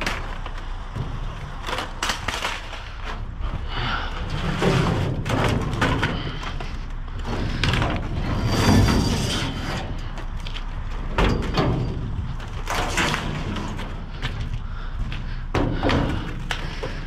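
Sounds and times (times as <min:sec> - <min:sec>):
metal knocking and scraping dumpster: 0:00.0 - 0:17.0.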